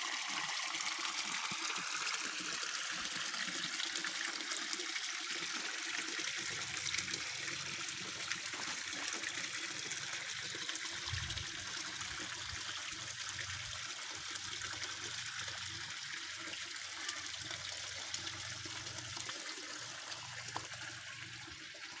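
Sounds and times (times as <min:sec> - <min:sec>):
water splashing into pond: 0:00.0 - 0:22.0.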